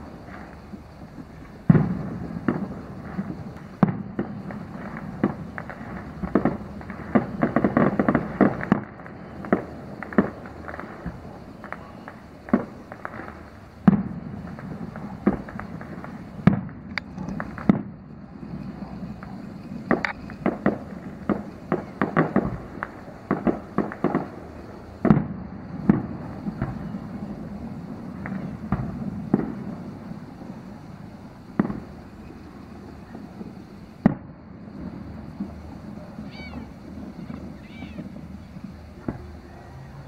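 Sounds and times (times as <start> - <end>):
distant fireworks bangs and pops: 0.0 - 40.0.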